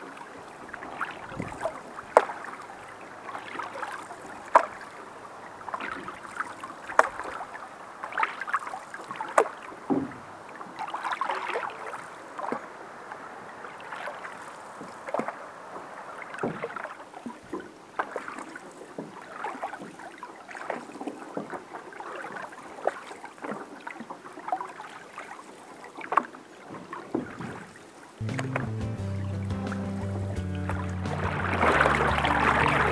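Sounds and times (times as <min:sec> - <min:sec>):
paddles splashing in water: 0:00.0 - 0:32.9.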